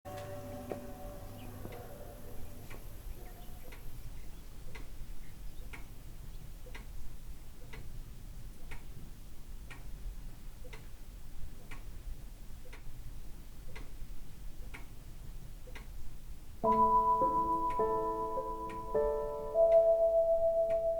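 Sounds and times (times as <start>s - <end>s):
clock ticking: 0.1s - 20.9s.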